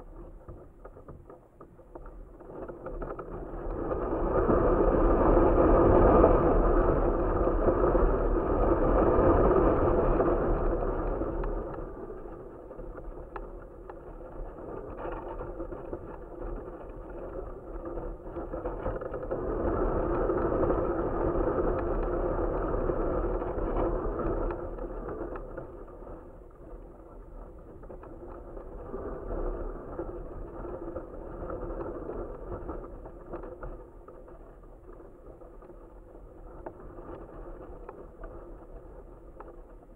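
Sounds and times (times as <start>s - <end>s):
wind buffeting camera: 0.0s - 39.9s.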